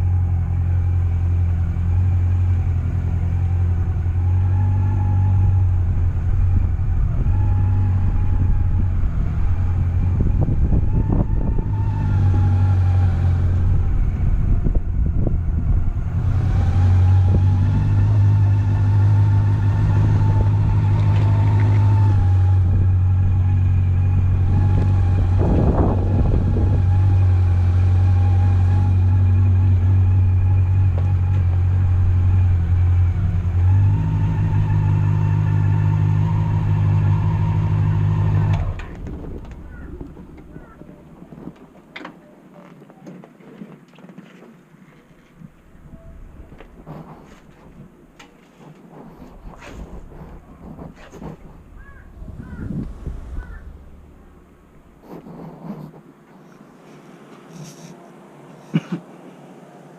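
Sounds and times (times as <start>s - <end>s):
motorcycle engine running: 0.0s - 41.6s, 45.4s - 56.6s.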